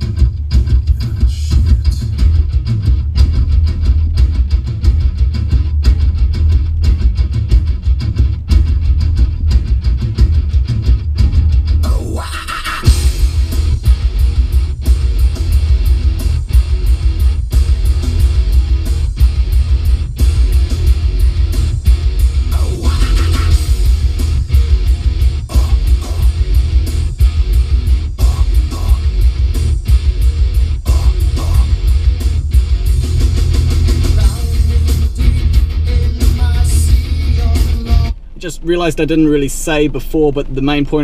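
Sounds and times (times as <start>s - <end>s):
rock music through car stereo: 0.0s - 41.0s.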